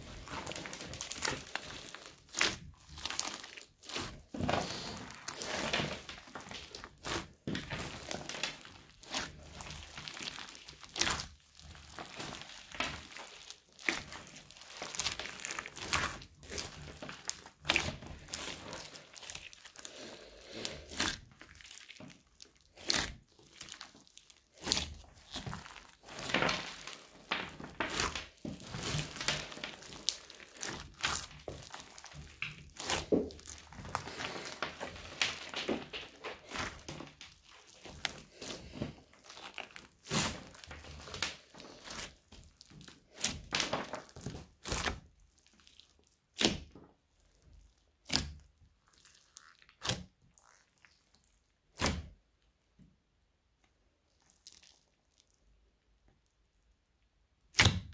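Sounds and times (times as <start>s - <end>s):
crunchy slime crackling: 0.0s - 52.7s, 53.4s - 56.8s.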